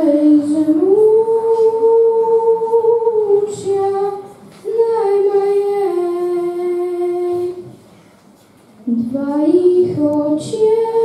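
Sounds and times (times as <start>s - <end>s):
girl singing unaccompanied: 0.0s - 7.8s, 8.8s - 11.0s.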